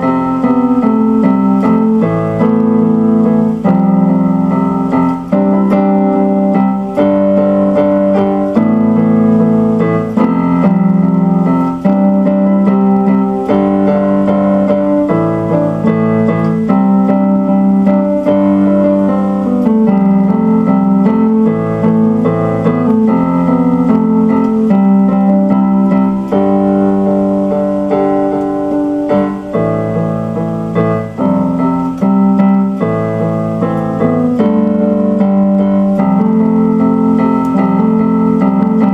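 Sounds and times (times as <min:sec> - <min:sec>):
electronic keyboard piano chords: 0:00.0 - 0:38.9.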